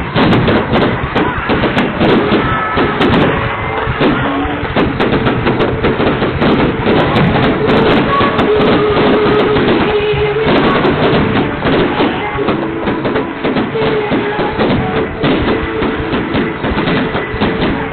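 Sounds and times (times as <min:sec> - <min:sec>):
fireworks pops and crackles: 0:00.0 - 0:17.9
music: 0:00.0 - 0:17.9.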